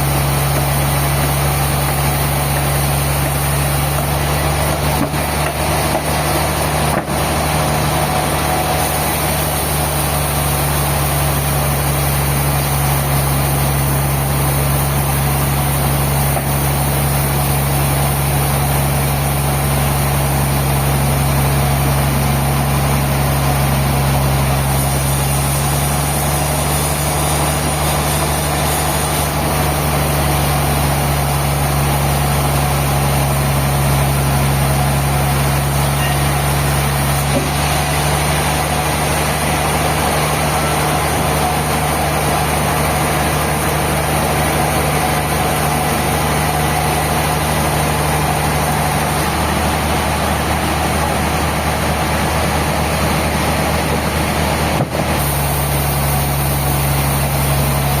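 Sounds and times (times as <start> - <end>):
sawmill machinery engine running: 0.0 - 58.0.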